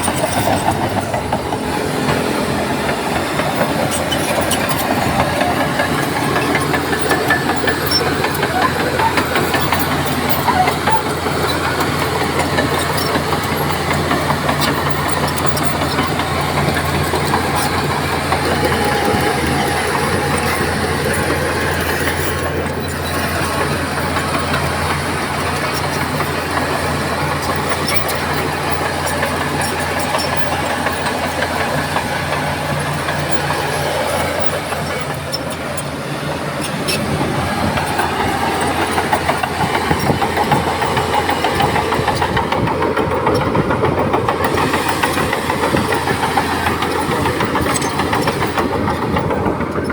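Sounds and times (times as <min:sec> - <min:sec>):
heavy diesel engine drone: 0:00.0 - 0:49.9
metallic rattle and clank: 0:00.0 - 0:49.9.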